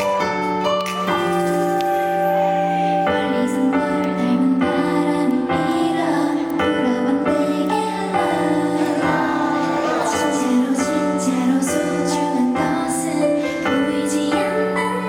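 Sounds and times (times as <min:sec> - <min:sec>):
pop backing track: 0:00.0 - 0:15.0
female vocals singing live: 0:02.8 - 0:15.0.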